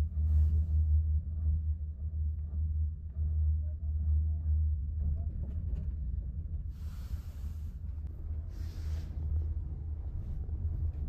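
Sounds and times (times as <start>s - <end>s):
low rumble inside a car: 0.0s - 11.0s.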